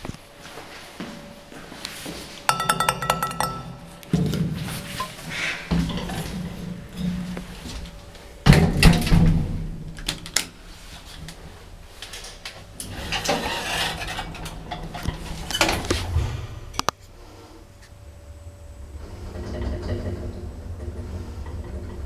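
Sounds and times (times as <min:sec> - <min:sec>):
low steady hum: 0:00.0 - 0:22.0
lift clanking: 0:02.5 - 0:17.0, 0:17.9 - 0:22.0.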